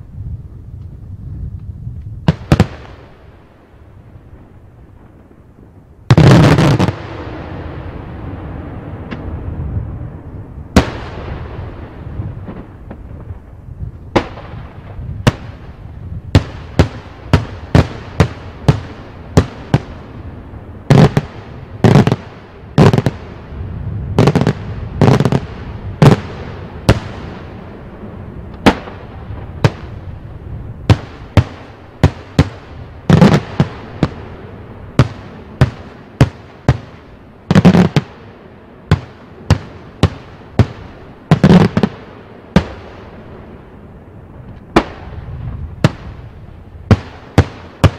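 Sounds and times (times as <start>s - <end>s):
fireworks bursting with echoes: 0.9s - 47.9s.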